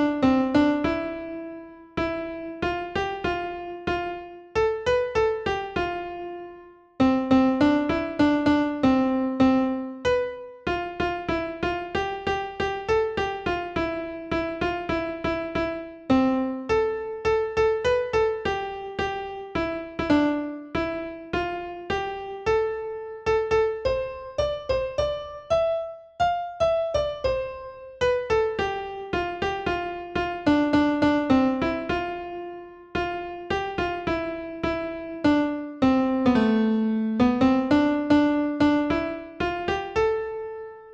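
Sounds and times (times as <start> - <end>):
piano-like keyboard melody: 0.0 - 40.9.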